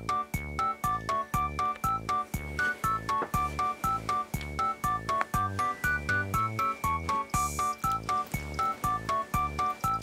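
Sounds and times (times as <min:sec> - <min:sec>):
keyboard tune: 0:00.0 - 0:10.0.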